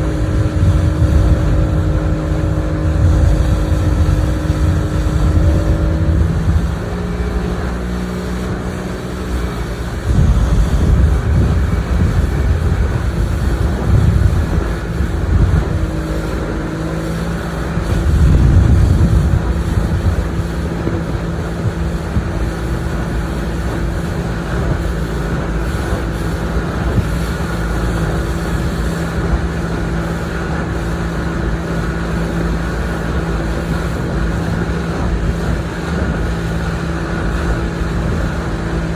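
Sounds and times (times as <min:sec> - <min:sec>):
motorboat engine running: 0:00.0 - 0:38.9
wind buffeting microphone: 0:00.0 - 0:38.9.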